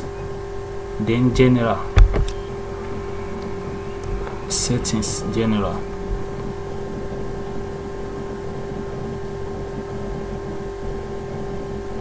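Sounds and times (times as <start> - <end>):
steady tonal hum: 0.0 - 12.0.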